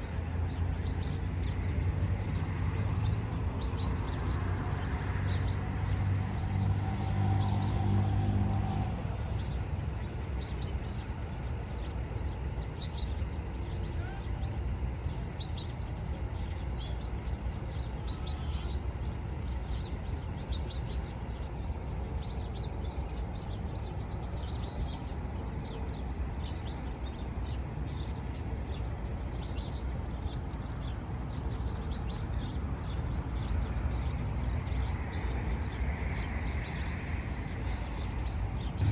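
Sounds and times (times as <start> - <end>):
small birds chirping: 0.0 - 38.9
street traffic rumble: 0.0 - 38.9.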